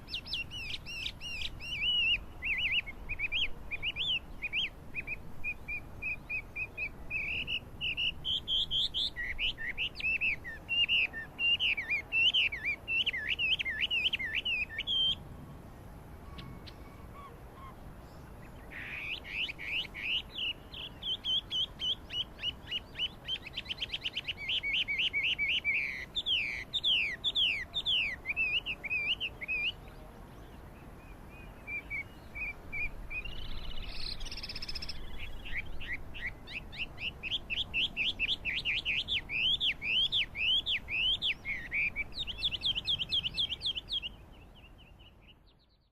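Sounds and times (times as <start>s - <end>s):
songbird whistling song: 0.0s - 15.2s, 16.2s - 45.9s.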